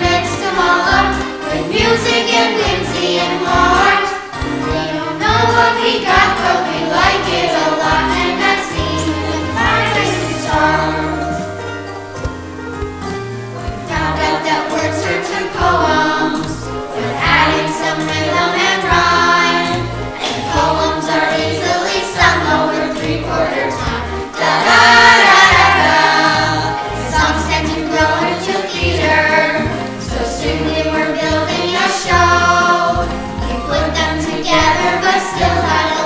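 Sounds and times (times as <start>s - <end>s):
young voices singing: 0.0s - 11.6s, 13.8s - 36.0s
instrumental accompaniment with bass: 0.0s - 36.0s.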